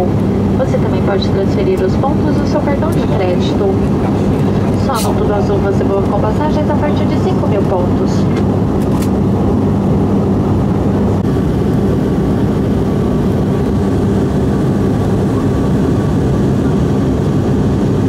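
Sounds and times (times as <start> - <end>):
airliner engine drone: 0.0 - 18.0
rushing airflow: 1.8 - 18.0.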